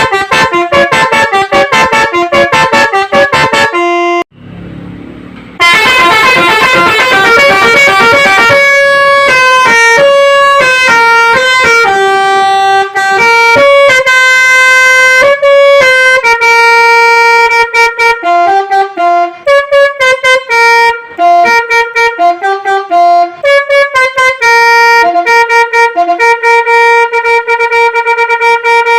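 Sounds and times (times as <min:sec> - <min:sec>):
musical air horn melody: 0:00.0 - 0:04.3, 0:05.6 - 0:28.9.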